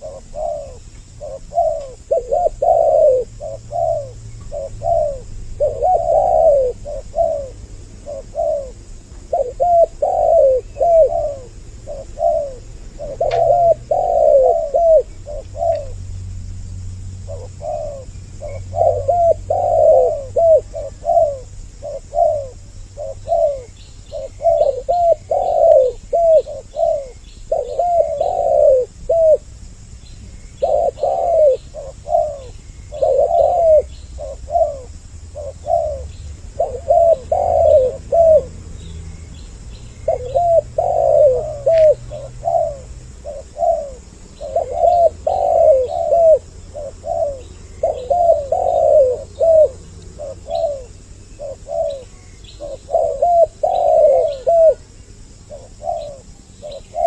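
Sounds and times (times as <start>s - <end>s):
doves cooing: 0.0s - 16.4s, 17.0s - 57.0s.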